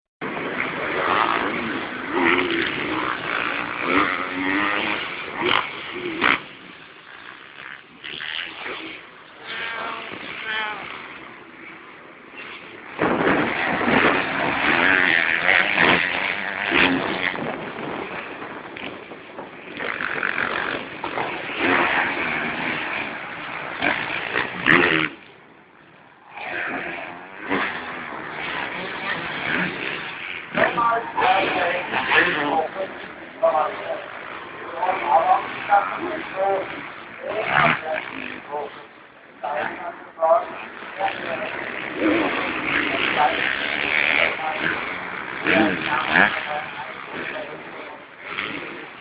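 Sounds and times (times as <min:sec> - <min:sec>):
motocross bike engines revving: 0:00.2 - 0:49.0.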